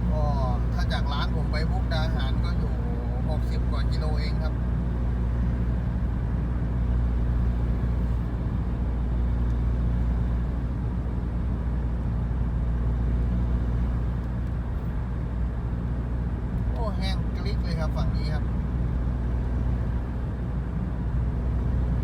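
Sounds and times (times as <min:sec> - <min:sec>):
road noise: 0:00.0 - 0:22.0
vehicle engine drone: 0:00.0 - 0:22.0.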